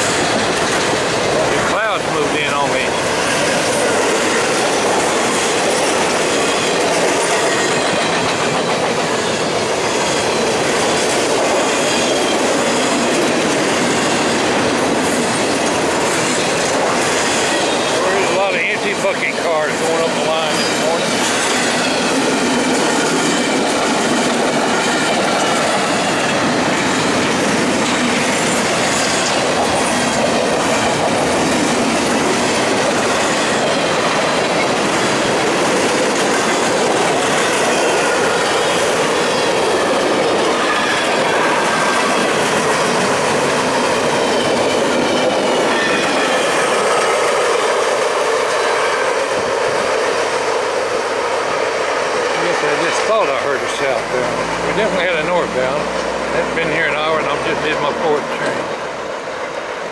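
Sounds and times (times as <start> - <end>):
train wheels rushing on rails: 0.0 - 59.9
wheels clacking over rail joints: 0.0 - 59.9.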